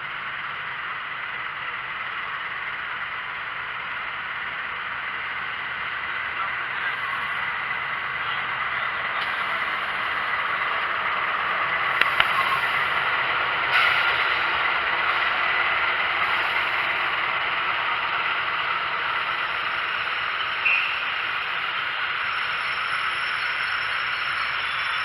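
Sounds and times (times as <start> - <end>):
train rumbling and clattering: 0.0 - 25.0.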